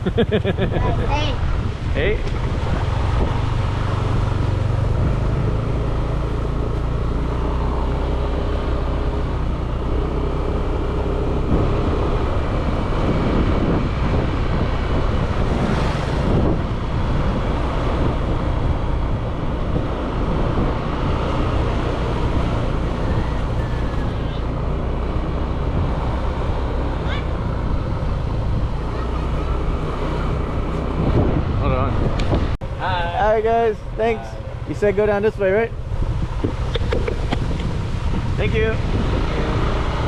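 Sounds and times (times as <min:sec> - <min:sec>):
road and wind noise: 0:00.0 - 0:40.0.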